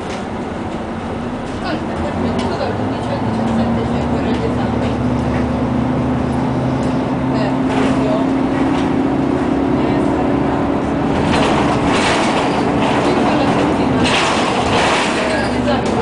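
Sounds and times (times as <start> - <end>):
bus engine hum: 0.0 - 16.0
road noise: 0.0 - 16.0.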